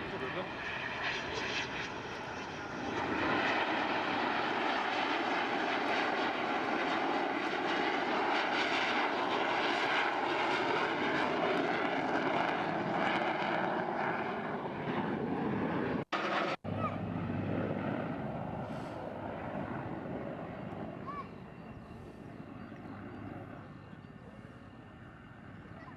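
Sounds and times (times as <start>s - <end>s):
aircraft engine noise: 0.0s - 25.9s.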